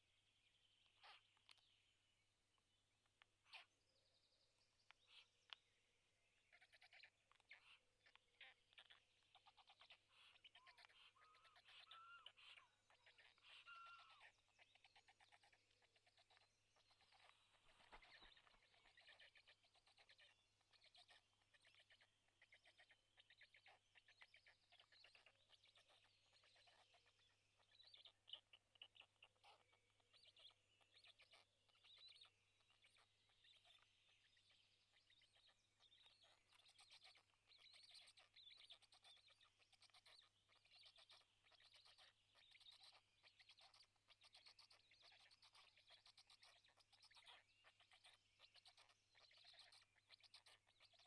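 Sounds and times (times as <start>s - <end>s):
high-pitched bird chirping: 6.5s - 51.0s.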